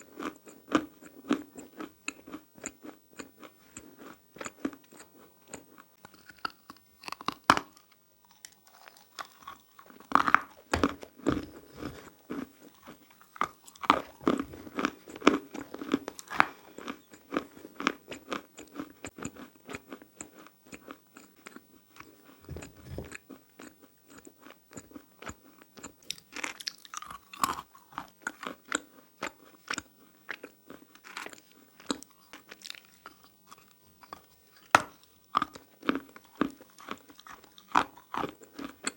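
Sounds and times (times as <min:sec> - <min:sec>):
crunching and chewing clay: 0:00.0 - 0:38.9.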